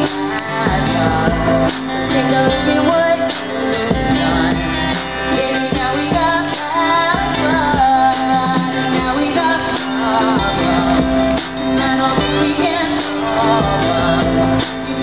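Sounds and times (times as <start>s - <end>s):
strummed acoustic guitars: 0.0s - 15.0s
woman singing into a microphone: 0.0s - 15.0s.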